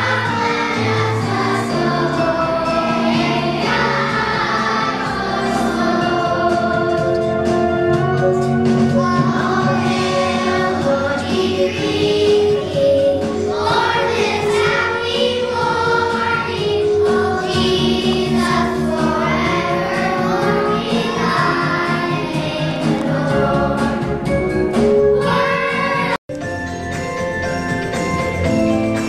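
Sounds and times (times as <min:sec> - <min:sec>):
children's choir singing: 0:00.0 - 0:26.2
instrumental music: 0:00.0 - 0:29.0.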